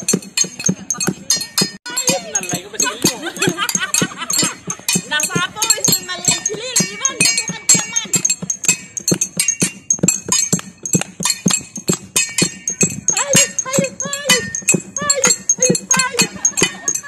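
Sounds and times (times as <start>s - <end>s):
metal pans struck like gongs: 0.0s - 17.0s
voices calling out: 0.0s - 17.0s.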